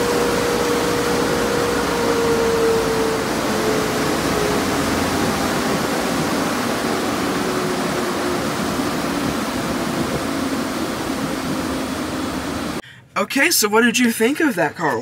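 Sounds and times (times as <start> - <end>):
dryer blowers rushing: 0.0 - 12.8.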